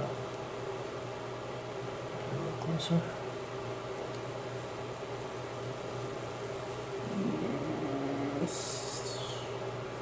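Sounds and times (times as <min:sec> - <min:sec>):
electrical hum: 0:00.0 - 0:10.0
hiss of wood burning: 0:00.0 - 0:10.0.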